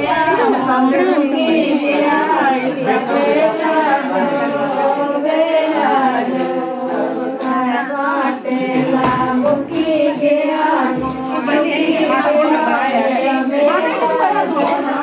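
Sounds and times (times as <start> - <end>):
women singing together: 0.0 - 15.0.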